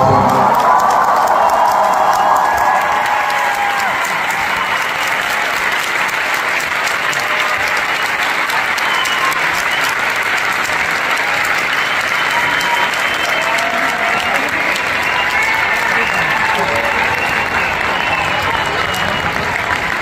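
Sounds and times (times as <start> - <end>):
large audience applauding: 0.0 - 20.0.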